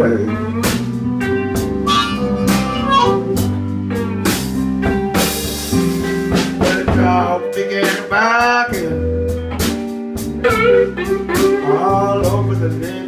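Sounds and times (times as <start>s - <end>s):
blues band playing: 0.0s - 13.0s.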